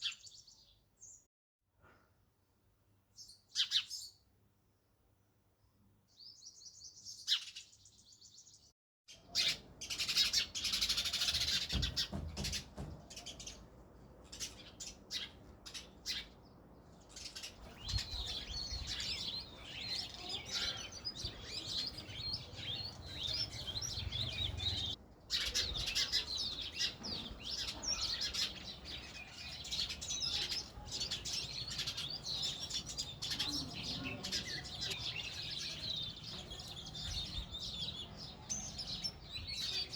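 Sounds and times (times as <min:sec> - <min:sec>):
sparrows chirping: 0:00.0 - 0:01.3, 0:03.1 - 0:04.3, 0:06.1 - 0:39.9.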